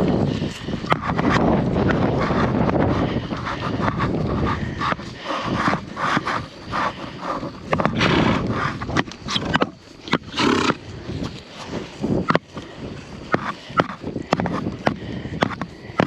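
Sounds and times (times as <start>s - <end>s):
rustling and scraping: 0.0s - 16.0s
wind buffeting microphone: 0.0s - 16.0s.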